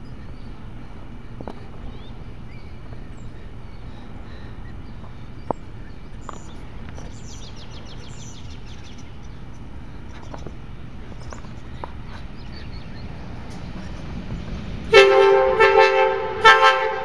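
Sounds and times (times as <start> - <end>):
birds chirping: 0.0 - 14.8
low outdoor rumble: 0.0 - 17.0.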